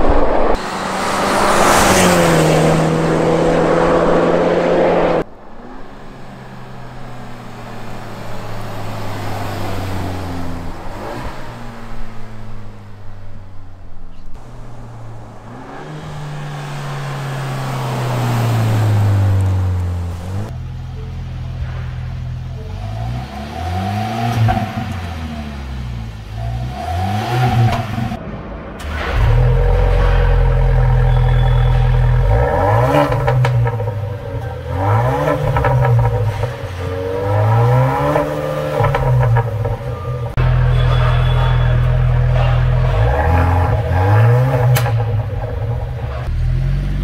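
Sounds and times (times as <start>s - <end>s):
car engine revving: 0.0s - 47.0s
truck exhaust drone passing by: 0.0s - 47.0s.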